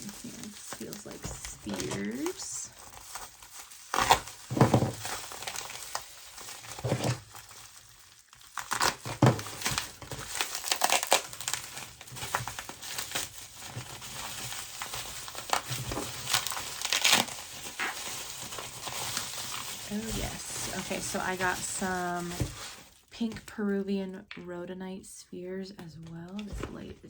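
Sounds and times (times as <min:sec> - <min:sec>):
packing material crinkling: 0:00.0 - 0:23.2.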